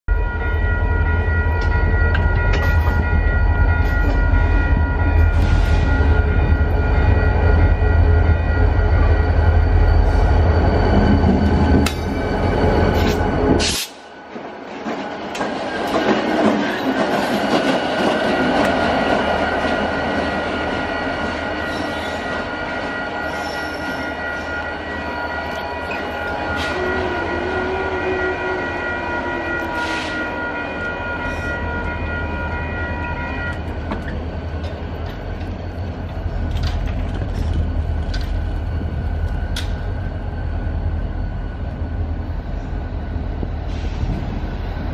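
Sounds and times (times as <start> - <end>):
level-crossing signal bells ringing: 0.1 - 13.6, 16.9 - 43.4
diesel locomotive engine rumble: 0.1 - 44.9.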